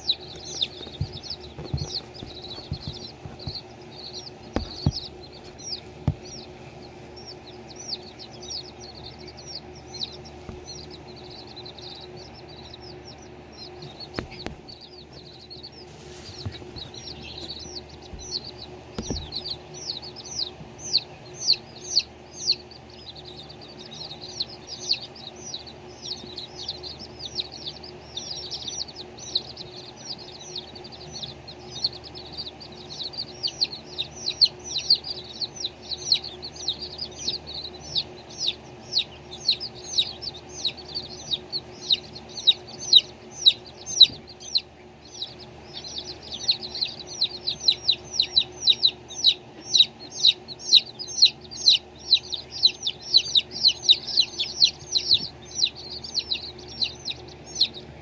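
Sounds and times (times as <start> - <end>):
baby chicks peeping: 0.0 - 58.0.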